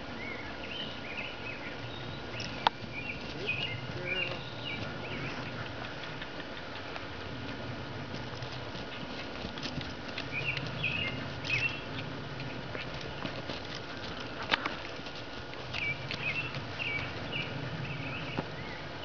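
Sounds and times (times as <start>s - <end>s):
horse hoofbeats trotting on grass: 0.0s - 19.0s.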